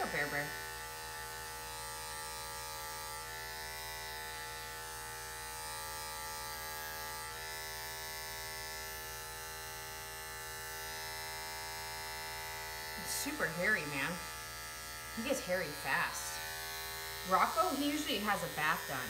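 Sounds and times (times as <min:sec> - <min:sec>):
electric clippers buzzing: 0:00.0 - 0:19.0.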